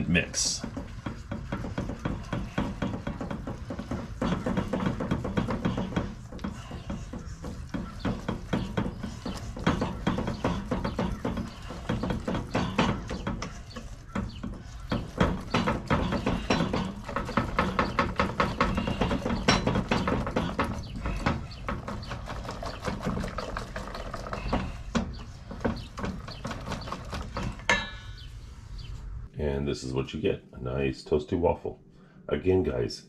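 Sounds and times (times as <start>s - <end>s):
whisk beating batter in metal bowl: 0.6s - 27.5s.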